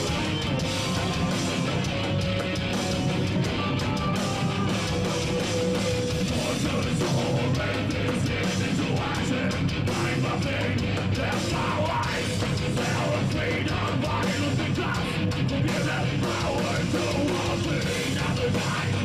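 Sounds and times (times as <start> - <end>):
distorted electric guitars chugging: 0.0 - 19.0
fast steady drums: 0.0 - 19.0.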